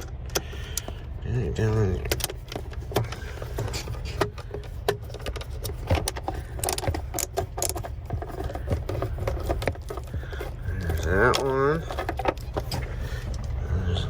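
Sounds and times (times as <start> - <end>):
steady low rumble: 0.0 - 14.0
hands handling plastic trim: 1.9 - 13.7.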